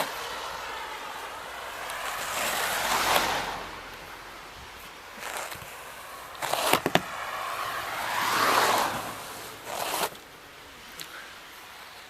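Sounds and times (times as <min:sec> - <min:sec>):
snow scraping off car: 0:00.0 - 0:10.2.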